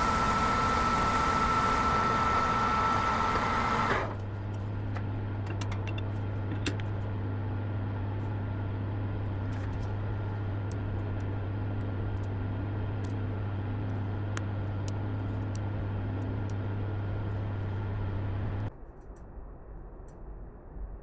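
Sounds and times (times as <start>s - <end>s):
road noise: 0.0s - 18.7s
vehicle engine running: 0.0s - 18.7s.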